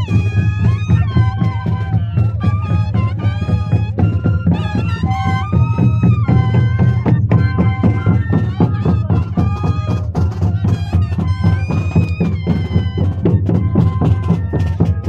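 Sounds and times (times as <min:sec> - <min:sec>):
drum beats: 0:00.0 - 0:15.0
group of duct flutes playing melody: 0:00.0 - 0:15.0.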